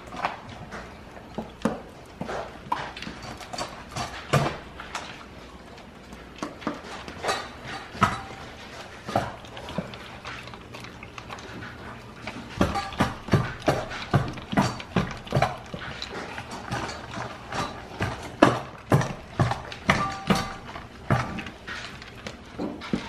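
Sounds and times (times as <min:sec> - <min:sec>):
dog crunching dry food: 0:00.0 - 0:23.0.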